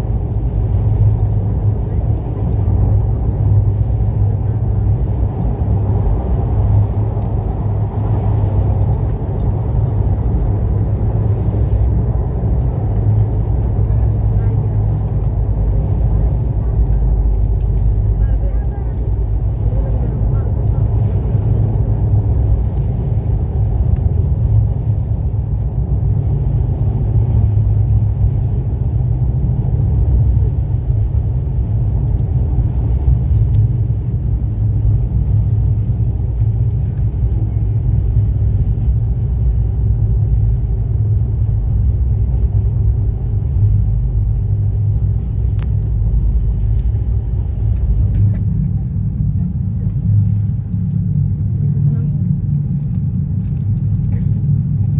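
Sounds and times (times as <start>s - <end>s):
train rumbling at speed: 0.0s - 54.9s.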